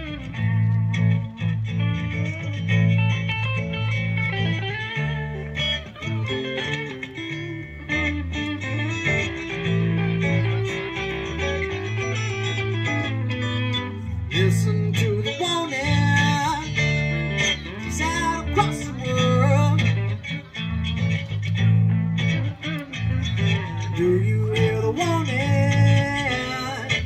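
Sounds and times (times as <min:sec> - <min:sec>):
bass line: 0:00.0 - 0:27.0
electric guitar lead line: 0:00.0 - 0:27.0.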